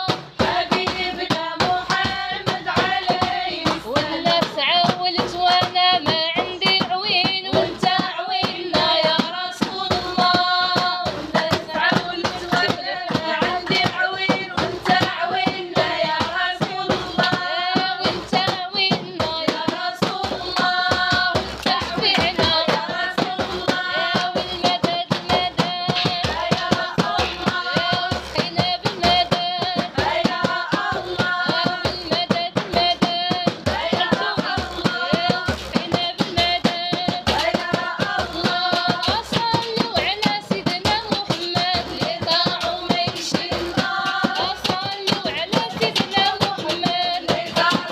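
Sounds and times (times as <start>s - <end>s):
group singing: 0.0s - 47.9s
percussion: 0.0s - 47.9s
rhythmic hand clapping: 0.0s - 47.9s.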